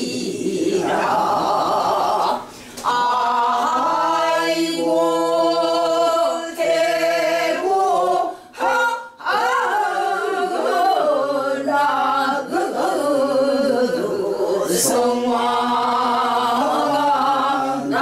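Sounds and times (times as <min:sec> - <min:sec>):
group singing unaccompanied: 0:00.0 - 0:18.0
woman singing with vibrato: 0:00.0 - 0:18.0.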